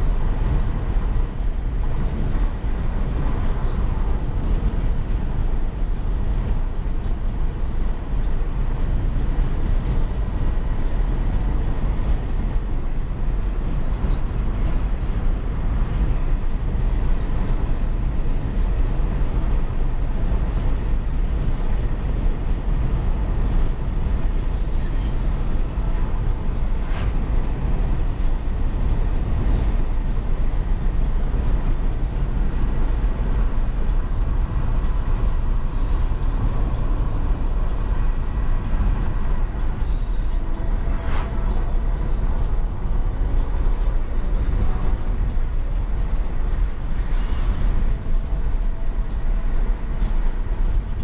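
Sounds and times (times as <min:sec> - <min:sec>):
car interior road and engine rumble: 0:00.0 - 0:51.0.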